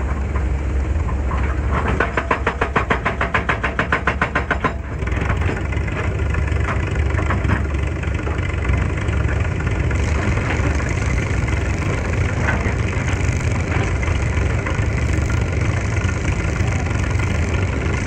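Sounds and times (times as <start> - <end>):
excavator diesel engine drone: 0.0 - 18.0.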